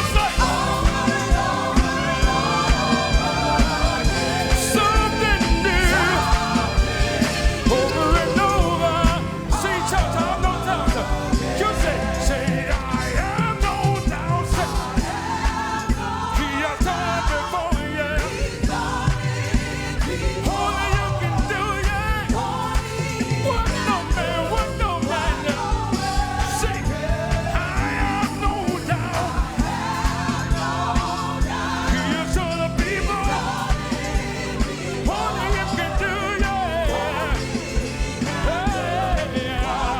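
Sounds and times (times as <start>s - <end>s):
band with keyboard bass and drums: 0.0s - 39.9s
gospel singers: 0.0s - 39.9s.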